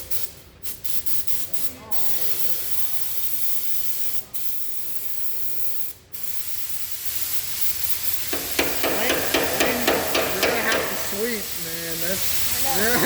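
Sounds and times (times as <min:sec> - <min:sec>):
spraying hiss from nozzle: 0:00.0 - 0:13.0.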